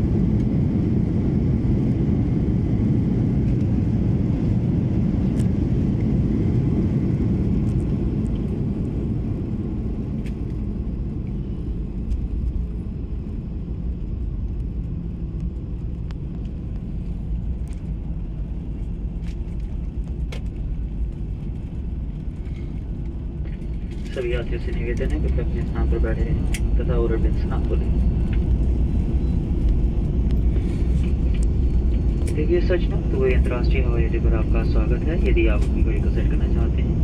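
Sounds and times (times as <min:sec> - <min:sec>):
jet cabin low rumble: 0:00.0 - 0:37.0.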